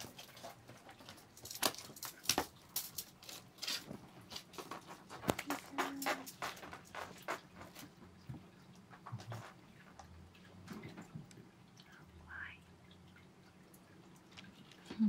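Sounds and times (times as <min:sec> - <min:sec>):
soft rustles and small clicks: 0:00.0 - 0:15.0.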